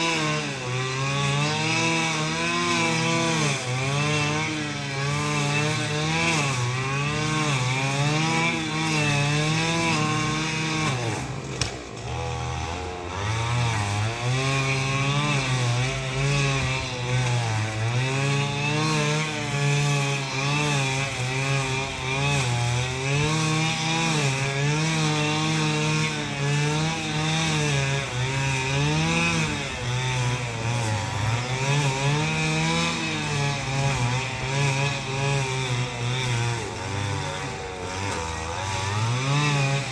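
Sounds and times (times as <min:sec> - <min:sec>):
two-stroke power tool engine revving: 0:00.0 - 0:39.9.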